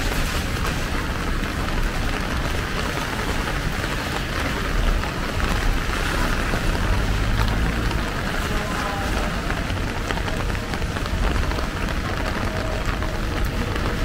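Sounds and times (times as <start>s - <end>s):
rain on plastic umbrella: 0.0s - 14.0s.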